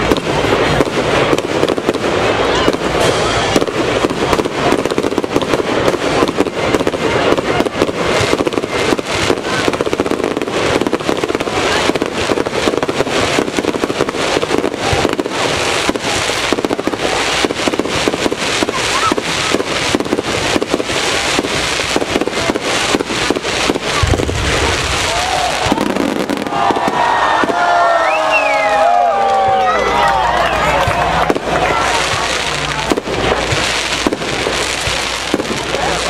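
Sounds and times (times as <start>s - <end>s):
fireworks popping and crackling: 0.0s - 36.0s.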